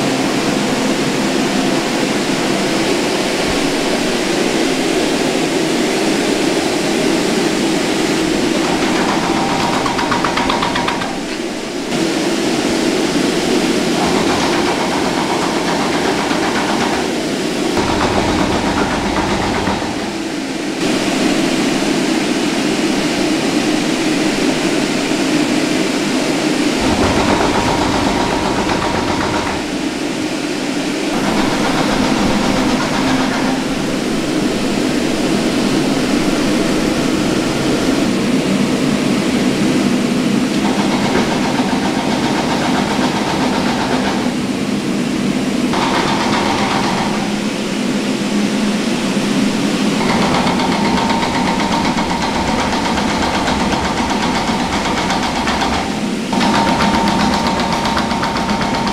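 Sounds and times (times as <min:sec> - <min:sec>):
food-processing machinery drone: 0:00.0 - 0:58.9.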